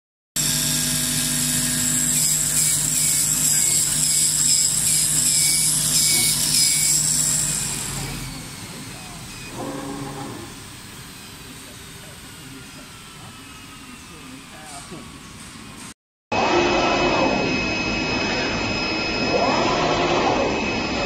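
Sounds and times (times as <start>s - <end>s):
cutting machine hiss and hum: 0.4s - 21.0s.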